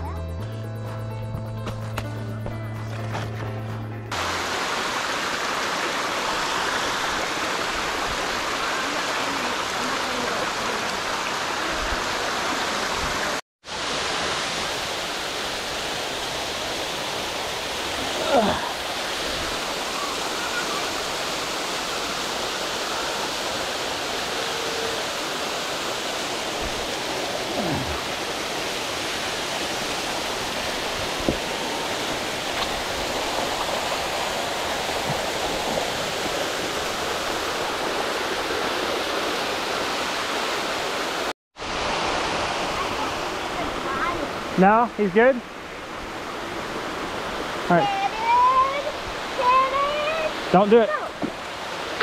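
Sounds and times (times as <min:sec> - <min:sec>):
small waterfall rushing over rock: 0:04.1 - 0:44.8, 0:45.4 - 0:52.0.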